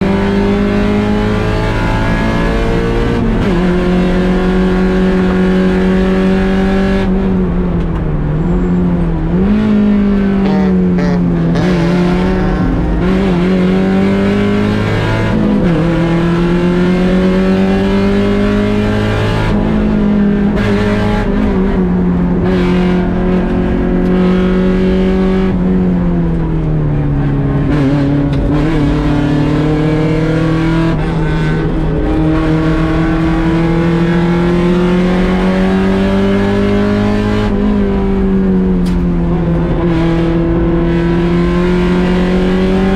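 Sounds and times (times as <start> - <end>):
car engine running hard: 0.0 - 42.9.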